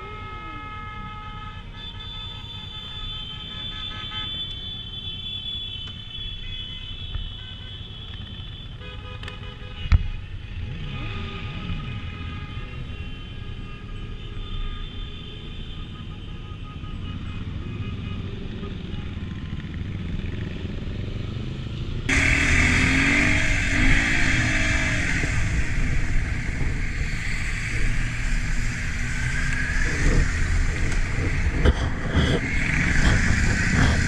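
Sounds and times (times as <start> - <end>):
vehicle horns blasting: 0.0 - 19.5, 22.1 - 34.0
engines running in traffic: 0.0 - 34.0.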